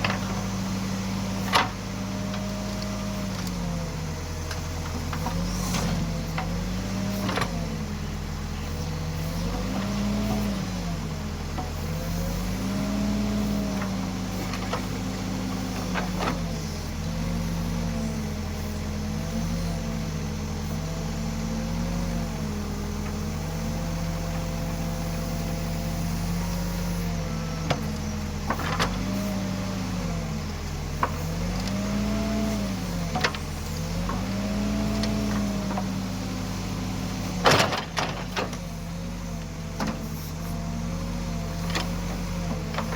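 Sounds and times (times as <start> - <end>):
diesel engine under load: 0.0 - 42.9.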